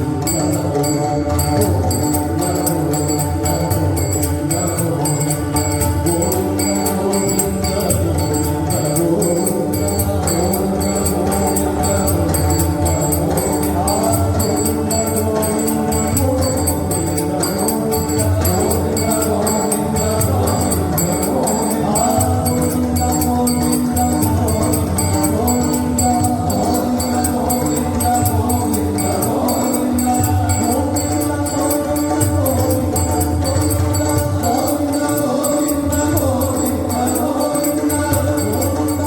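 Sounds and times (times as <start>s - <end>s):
jingling metal percussion: 0.0s - 39.0s
pakhawaj drum and tabla: 0.0s - 39.0s
person singing: 0.0s - 39.0s.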